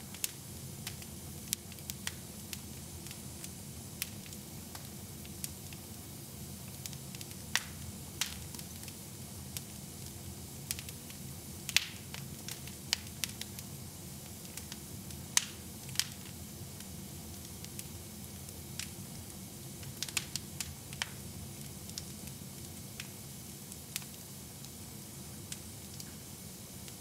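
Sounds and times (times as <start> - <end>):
wood fire crackling and popping: 0.1 - 27.0.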